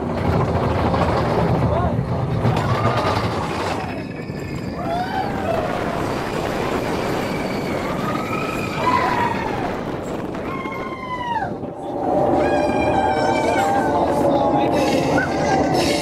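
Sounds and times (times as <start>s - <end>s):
roller coaster train rumbling: 0.0s - 16.0s.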